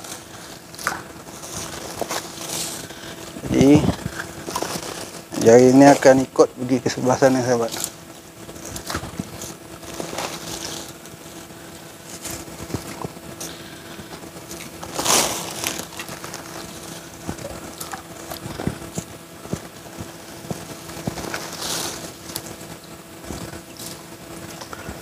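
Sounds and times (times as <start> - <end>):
faint steady hum: 0.0 - 25.0
net and sack rustling: 0.0 - 25.0.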